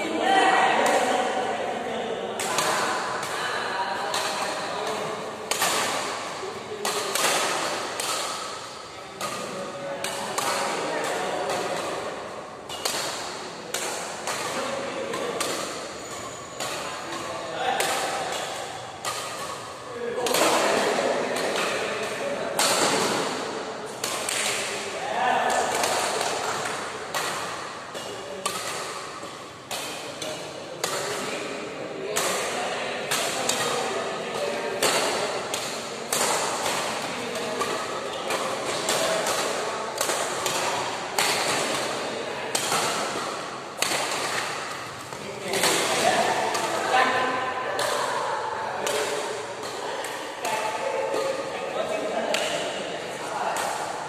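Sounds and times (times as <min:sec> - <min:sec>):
rackets striking shuttlecock: 0:02.4 - 0:54.0.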